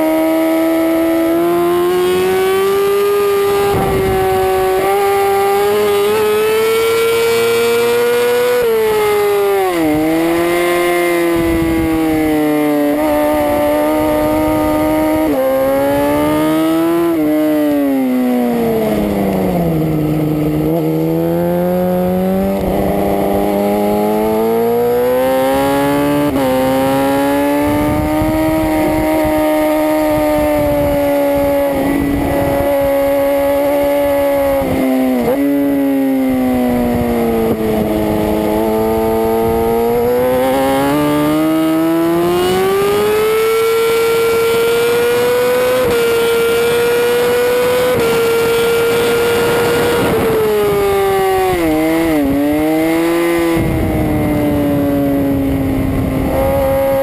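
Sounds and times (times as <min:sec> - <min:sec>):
motorcycle engine revving: 0:00.0 - 0:57.0
wind rush on microphone: 0:00.7 - 0:57.0.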